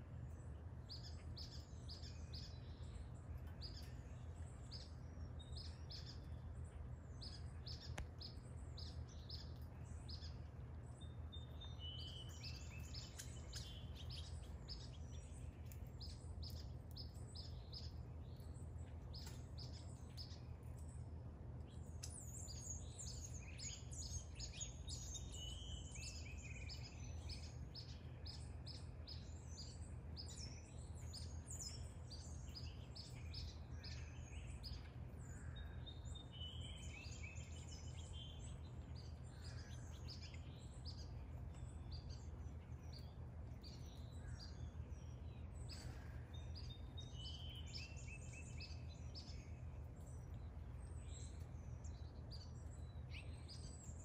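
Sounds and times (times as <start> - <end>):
low background hum: 0.0 - 54.0
songbirds chirping: 0.0 - 54.0.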